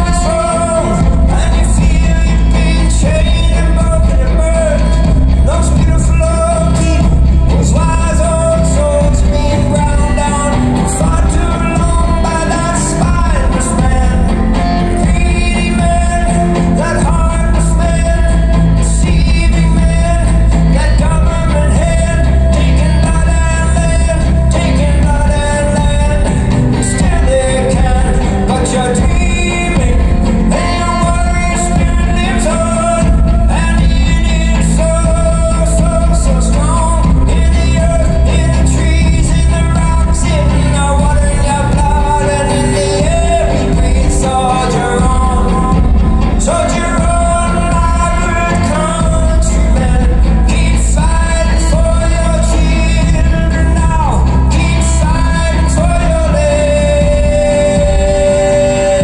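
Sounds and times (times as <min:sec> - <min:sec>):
acoustic guitar: 0:00.0 - 0:59.0
heavy bass: 0:00.0 - 0:59.0
wordless singing: 0:00.0 - 0:59.0.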